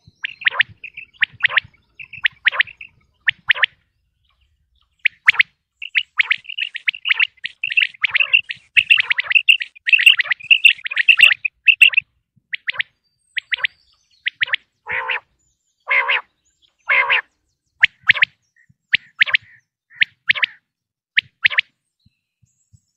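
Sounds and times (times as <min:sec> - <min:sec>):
harsh quail calls: 0:00.0 - 0:03.8, 0:04.9 - 0:21.6
quail chirping calls: 0:00.0 - 0:20.6.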